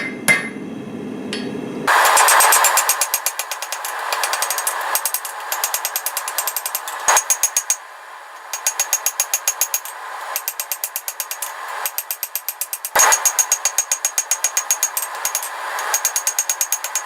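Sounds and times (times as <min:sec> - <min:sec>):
hammer ringing on anvil: 0:01.4 - 0:07.8, 0:08.4 - 0:17.0.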